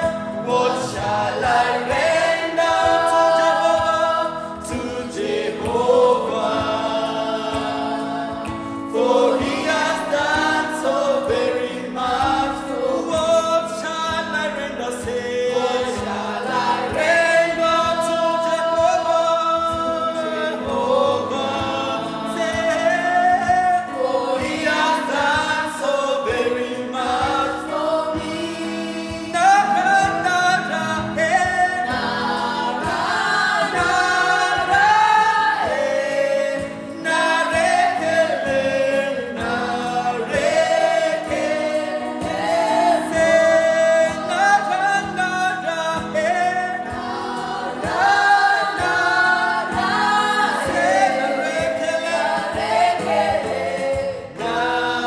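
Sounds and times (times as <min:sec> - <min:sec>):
group of voices singing: 0:00.0 - 0:55.0
instrumental accompaniment with beat: 0:00.0 - 0:55.0.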